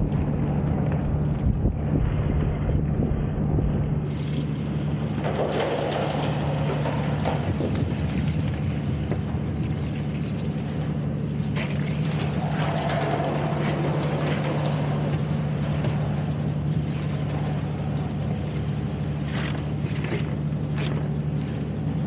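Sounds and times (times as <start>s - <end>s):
wind buffeting microphone: 0.0s - 5.2s, 5.9s - 22.0s
engine-driven agitator humming: 0.0s - 22.0s.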